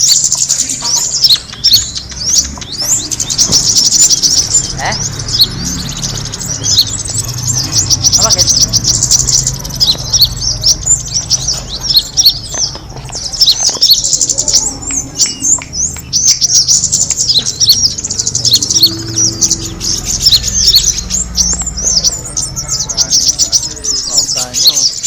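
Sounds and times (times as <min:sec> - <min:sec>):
songbirds chirping and twittering: 0:00.0 - 0:25.0.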